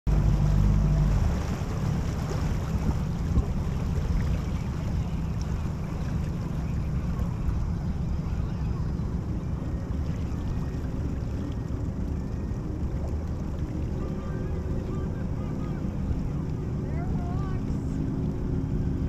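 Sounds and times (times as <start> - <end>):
open water wash: 0.1 - 19.0
wind buffeting microphone: 0.1 - 19.0.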